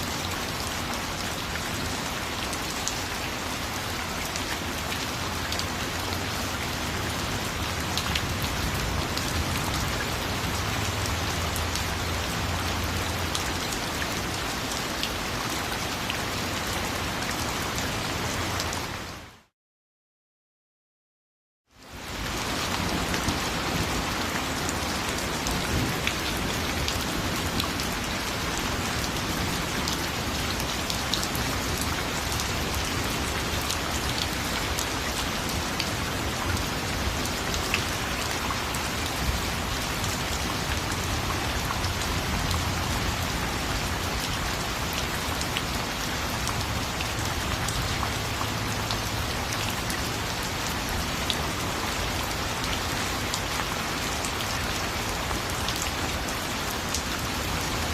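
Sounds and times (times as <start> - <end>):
rain drops pattering on surface: 0.0 - 19.5, 21.7 - 57.9.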